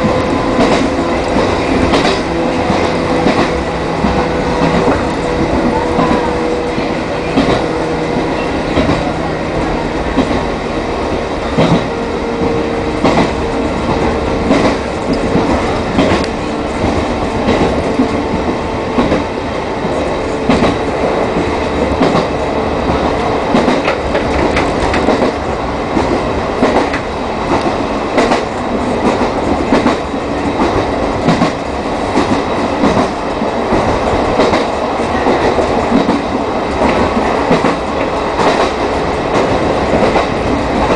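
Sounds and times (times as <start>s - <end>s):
train rumble: 0.0s - 40.9s
train wheels clicking over joints: 0.0s - 40.9s.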